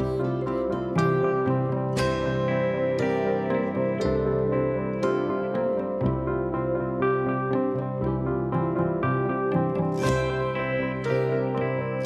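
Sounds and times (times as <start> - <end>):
soft keyboard music: 0.0 - 12.0.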